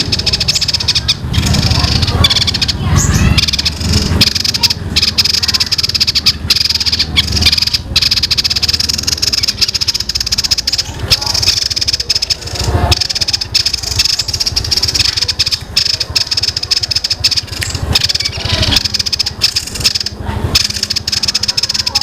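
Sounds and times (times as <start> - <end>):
songbird rattling trill: 0.0 - 22.0.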